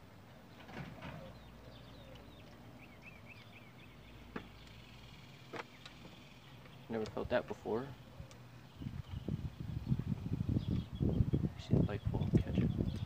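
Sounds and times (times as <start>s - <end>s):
bird chirping: 0.5s - 13.0s.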